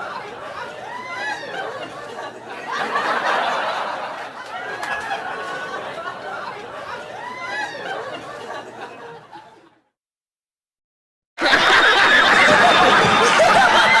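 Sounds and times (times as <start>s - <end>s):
crowd laughing loudly: 0.0s - 9.9s, 11.4s - 14.0s.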